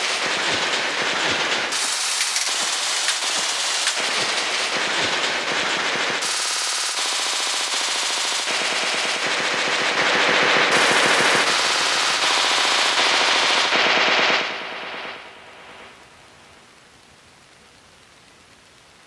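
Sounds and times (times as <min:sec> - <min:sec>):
faint hiss: 0:00.0 - 0:09.0, 0:11.0 - 0:19.0
raindrop patter sample: 0:00.0 - 0:19.0.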